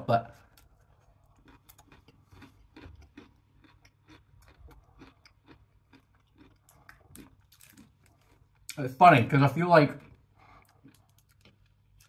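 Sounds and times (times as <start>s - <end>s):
hard caramel being chewed: 0.4s - 8.8s, 9.8s - 12.0s.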